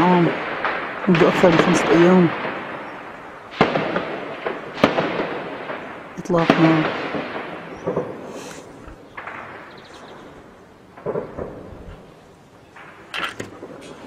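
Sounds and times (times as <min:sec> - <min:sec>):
gunshots with echo: 0:00.0 - 0:12.2.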